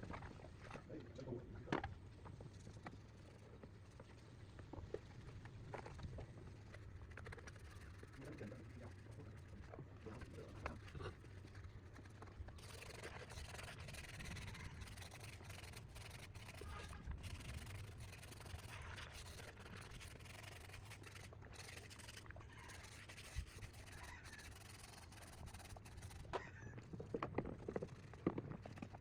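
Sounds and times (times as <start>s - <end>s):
scratchy rubbing on hard surface: 5.8s - 29.0s.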